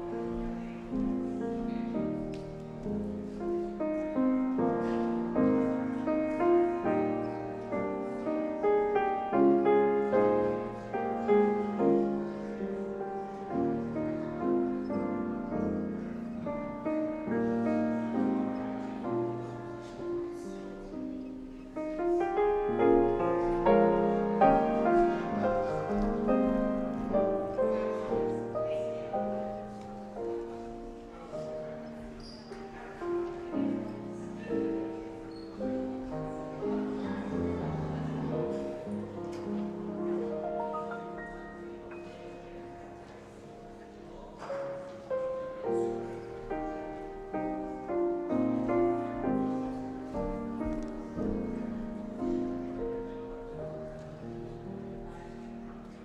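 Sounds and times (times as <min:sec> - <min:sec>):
slow piano piece: 0:00.0 - 0:56.0.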